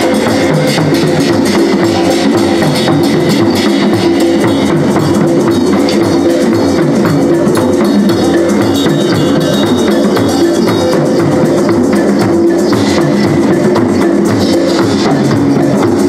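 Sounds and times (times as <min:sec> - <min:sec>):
hand drums playing rhythm: 0:00.0 - 0:16.0.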